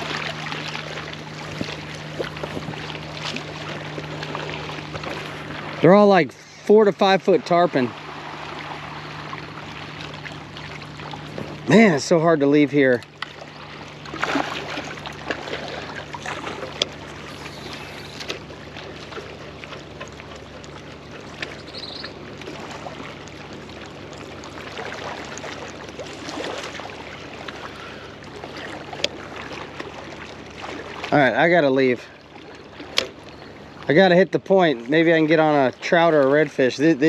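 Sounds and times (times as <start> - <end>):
low hum: 0.0 - 37.0
water lapping at shoreline: 0.0 - 37.0.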